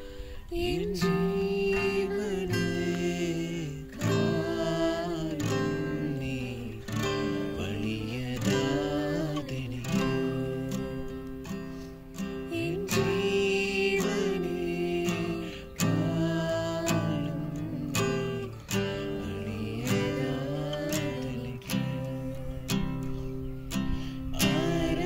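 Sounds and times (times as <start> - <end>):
acoustic guitar strummed: 0.0 - 25.0
people singing worship song: 0.0 - 25.0.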